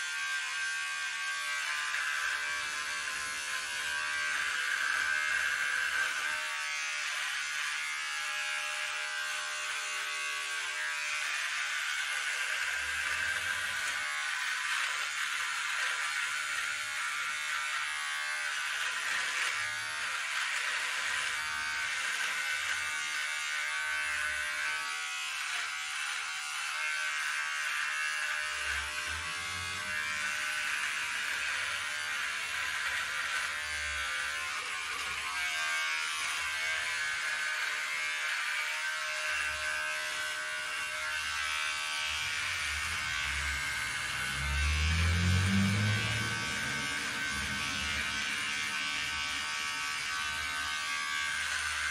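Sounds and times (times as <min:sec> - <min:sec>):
electric shaver buzzing: 0:00.0 - 0:51.9.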